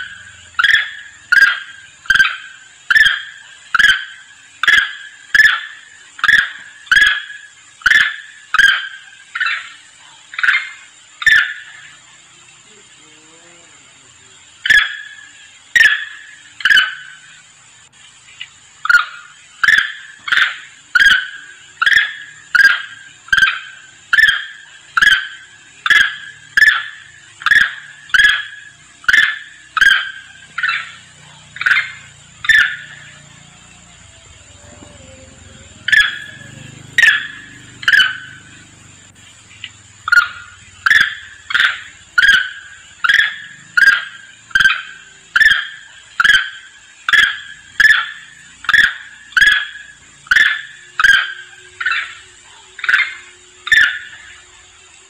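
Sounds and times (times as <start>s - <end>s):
macaque calls: 0.0s - 17.4s, 18.8s - 54.4s
faint steady high hiss: 0.0s - 55.0s.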